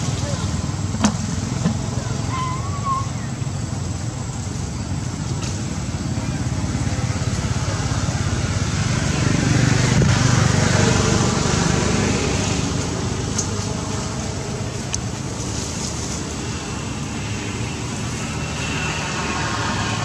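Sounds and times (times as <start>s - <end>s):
traffic hum: 0.0s - 20.0s
vehicle engine running: 3.2s - 20.0s.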